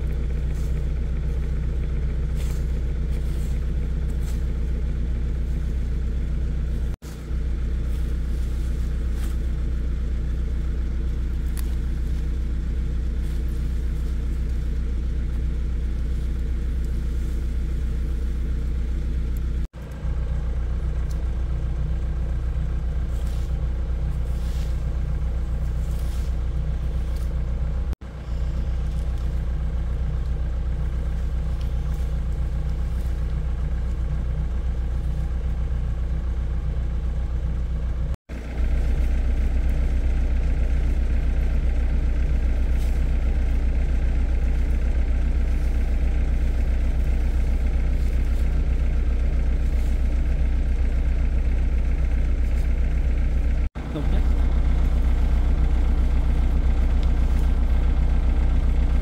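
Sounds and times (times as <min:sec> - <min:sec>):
excavator diesel engine idling: 0:00.0 - 0:59.0.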